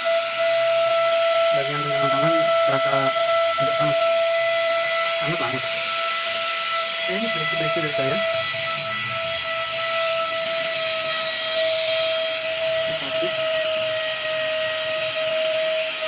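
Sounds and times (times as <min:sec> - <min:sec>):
handheld vacuum cleaner running: 0:00.0 - 0:16.0.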